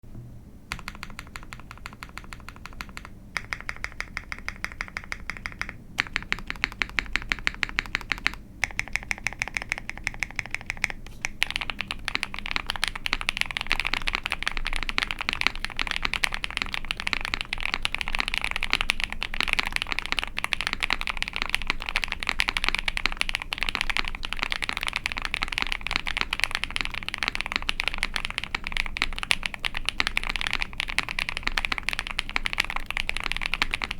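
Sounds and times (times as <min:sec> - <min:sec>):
mechanical keyboard typing: 0:00.7 - 0:33.9.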